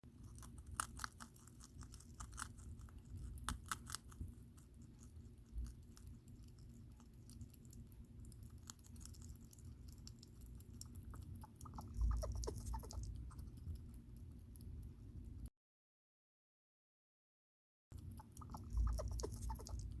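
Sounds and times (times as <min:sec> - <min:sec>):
hedgehog chirping: 0:00.2 - 0:14.2, 0:18.0 - 0:20.0.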